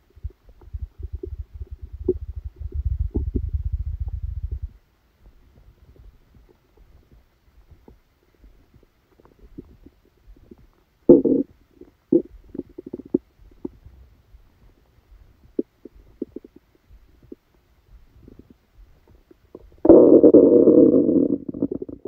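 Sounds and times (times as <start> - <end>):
stomach gurgling: 0.0 - 22.0.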